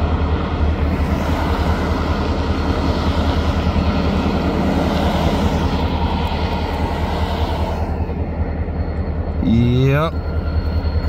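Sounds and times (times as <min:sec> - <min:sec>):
cars passing: 0:00.0 - 0:10.1
diesel locomotive idling: 0:00.0 - 0:11.0.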